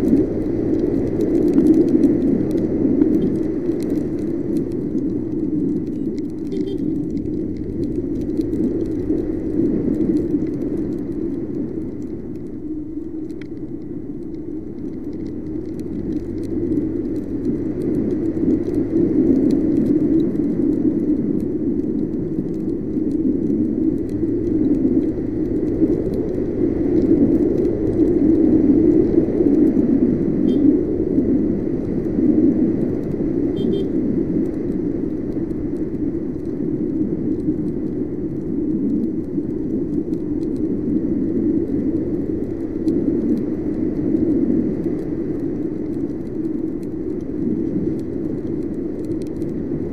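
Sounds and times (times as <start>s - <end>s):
wind and road noise from scooter: 0.0s - 49.9s.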